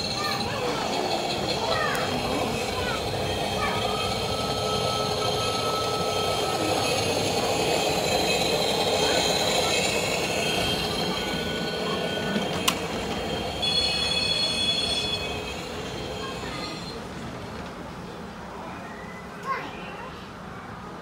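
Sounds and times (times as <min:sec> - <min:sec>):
wheels squealing: 0:00.0 - 0:17.5
model trains running on track: 0:00.0 - 0:20.9.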